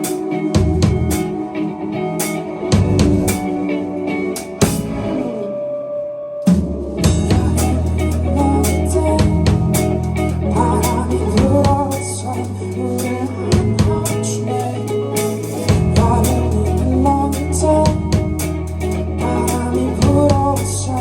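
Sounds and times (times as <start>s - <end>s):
drum kit beat: 0.0s - 1.4s, 2.2s - 3.6s, 4.4s - 5.1s, 6.5s - 20.8s
bass guitar: 0.0s - 5.6s, 6.5s - 21.0s
electric guitar: 0.0s - 21.0s.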